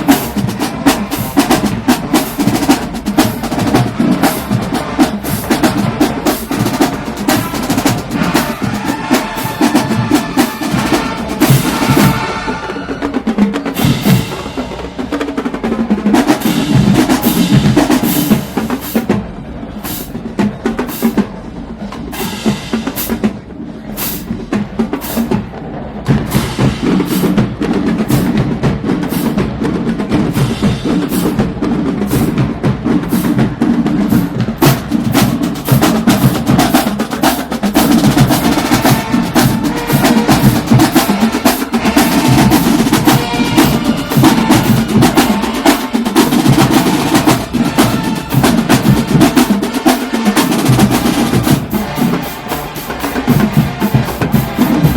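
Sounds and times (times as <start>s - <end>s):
marching drumline cadence: 0.0s - 54.9s.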